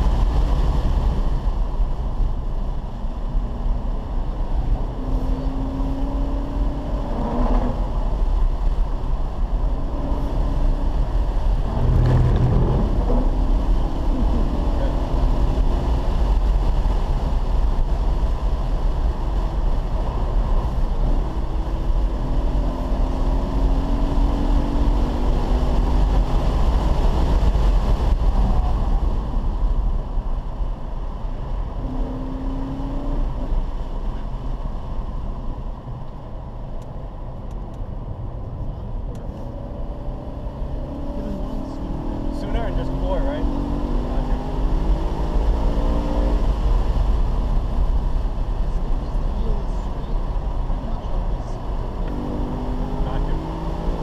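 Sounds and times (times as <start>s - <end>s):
car engine pulling hard: 0.0s - 54.0s
road and wind noise: 0.0s - 54.0s.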